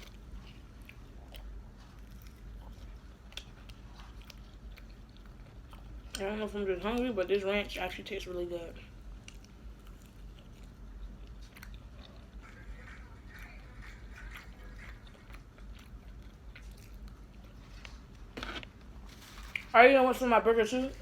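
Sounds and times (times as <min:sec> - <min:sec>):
person chewing food: 0:00.0 - 0:07.0, 0:08.9 - 0:19.7.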